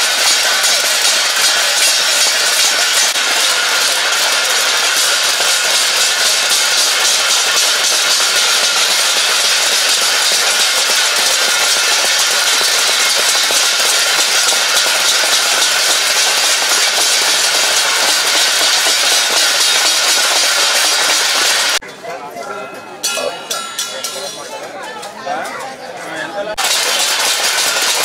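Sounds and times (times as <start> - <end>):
spoons beating metal plates: 0.0 - 21.8, 23.0 - 25.6, 26.6 - 28.0.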